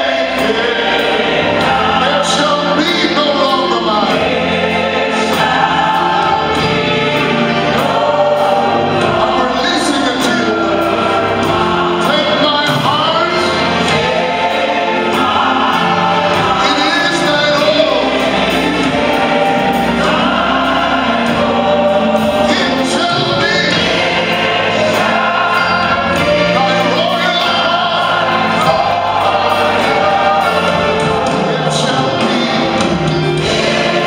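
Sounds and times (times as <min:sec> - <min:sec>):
choir and congregation singing hymn: 0:00.0 - 0:34.0.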